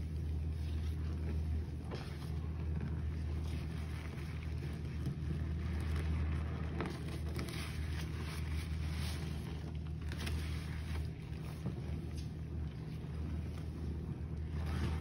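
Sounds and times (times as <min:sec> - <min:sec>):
low hum: 0:00.0 - 0:15.0
sponge squelching in water: 0:00.0 - 0:15.0.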